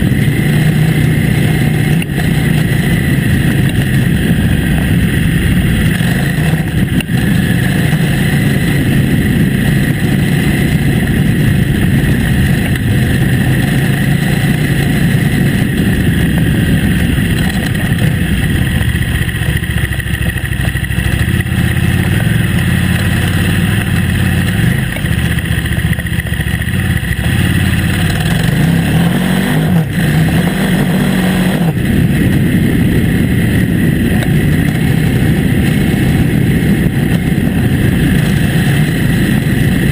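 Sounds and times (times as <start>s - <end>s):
motorcycle engine on dirt track: 0.0s - 39.9s.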